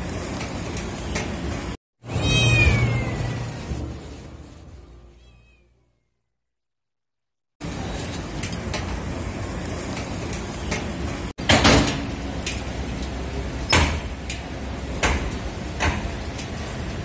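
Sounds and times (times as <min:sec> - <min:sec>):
street food stall rumble and hiss: 0:00.0 - 0:05.8, 0:07.6 - 0:17.0.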